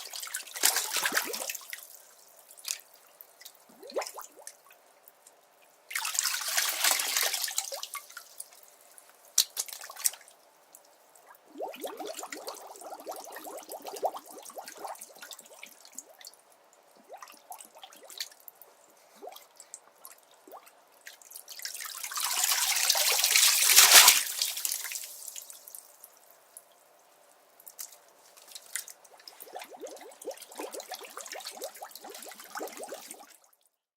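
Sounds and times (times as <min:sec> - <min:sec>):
water dripping in bathtub: 0:00.0 - 0:26.8, 0:27.6 - 0:33.7.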